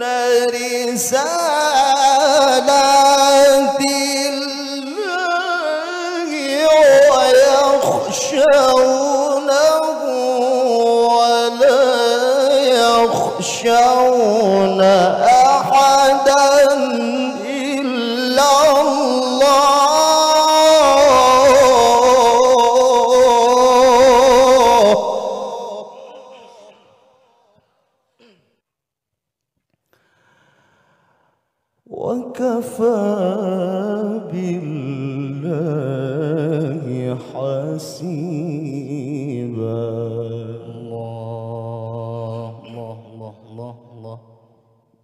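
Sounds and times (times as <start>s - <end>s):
man reciting melodically: 0.0s - 27.1s, 31.8s - 44.8s.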